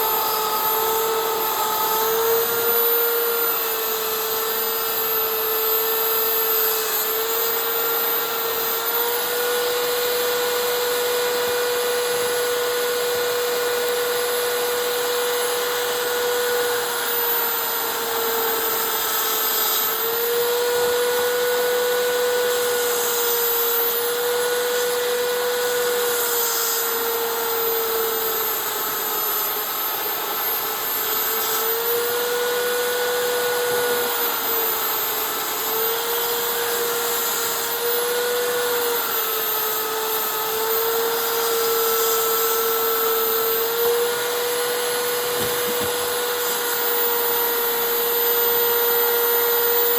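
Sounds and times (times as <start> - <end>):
power tool whining on wood: 0.0 - 49.9.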